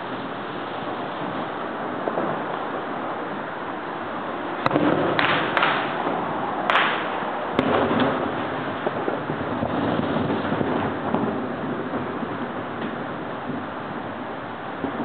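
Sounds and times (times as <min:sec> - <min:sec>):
background hiss: 0:00.0 - 0:15.0
fireworks bangs: 0:00.0 - 0:15.0
fireworks crackle: 0:00.0 - 0:15.0.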